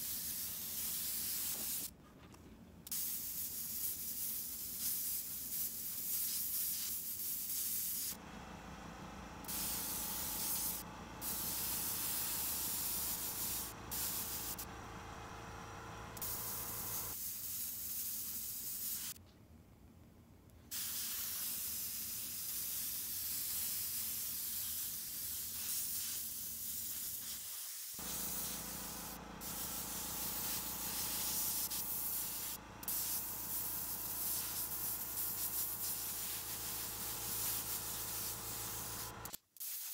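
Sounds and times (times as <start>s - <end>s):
airbrush air hiss: 0.0s - 1.9s, 2.9s - 8.2s, 9.4s - 14.7s, 16.2s - 19.2s, 20.7s - 39.9s.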